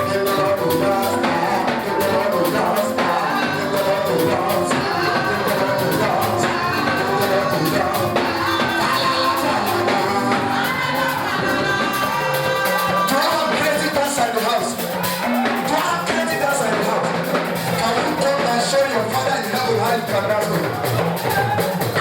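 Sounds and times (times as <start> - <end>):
band with drums and percussion: 0.0 - 22.0
people singing gospel: 0.0 - 22.0.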